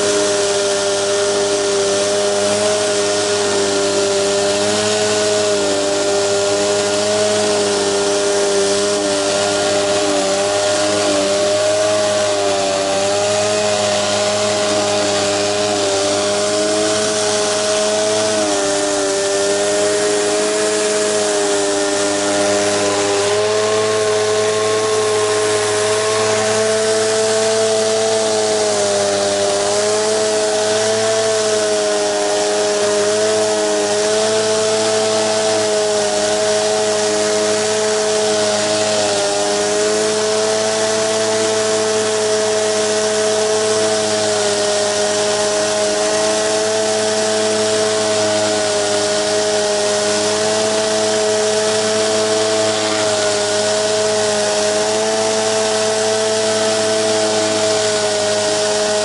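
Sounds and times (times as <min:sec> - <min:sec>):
high-pressure water spray hissing: 0:00.0 - 0:59.0
pressure washer engine running: 0:00.0 - 0:59.0.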